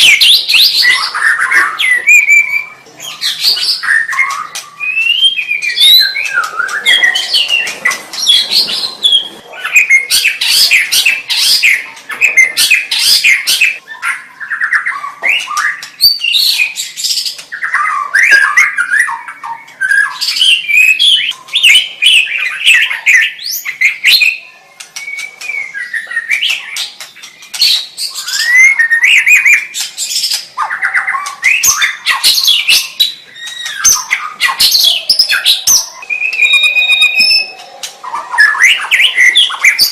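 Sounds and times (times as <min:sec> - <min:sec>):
bird singing whistles and trills: 0:00.0 - 0:39.9
harsh rattling bird calls: 0:00.0 - 0:39.9.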